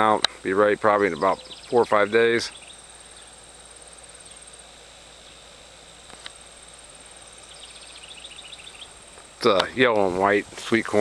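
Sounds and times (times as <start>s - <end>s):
rapid pulsed insect chirping: 0.0s - 11.0s.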